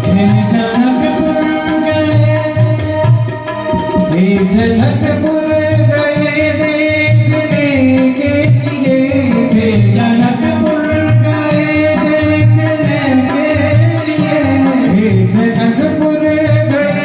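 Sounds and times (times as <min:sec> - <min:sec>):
devotional music melody: 0:00.0 - 0:17.0
person singing: 0:00.0 - 0:17.0.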